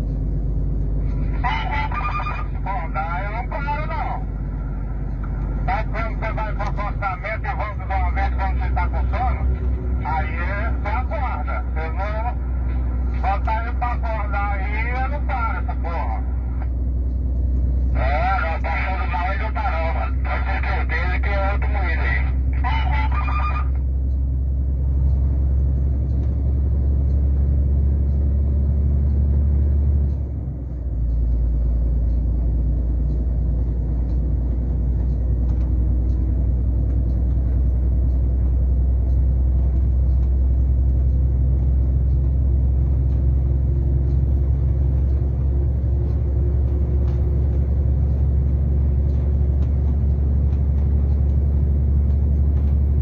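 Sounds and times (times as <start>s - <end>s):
truck cab engine and road rumble: 0.0s - 53.0s.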